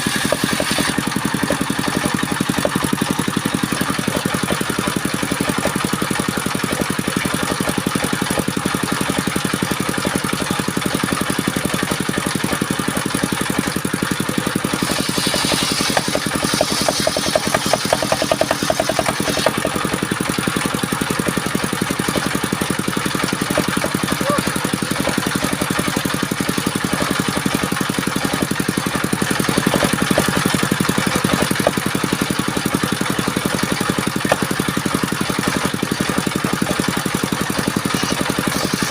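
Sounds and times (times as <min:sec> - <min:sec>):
circular wood saw running: 0:00.0 - 0:38.9.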